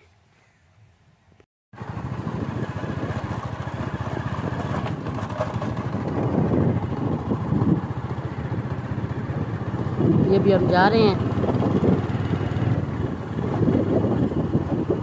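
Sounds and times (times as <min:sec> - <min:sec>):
vehicle engine running: 0:01.8 - 0:15.0.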